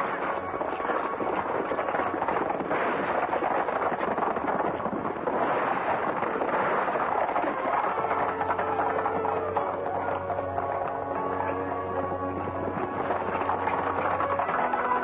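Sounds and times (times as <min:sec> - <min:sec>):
horses galloping hoofbeats: 0:00.0 - 0:15.0.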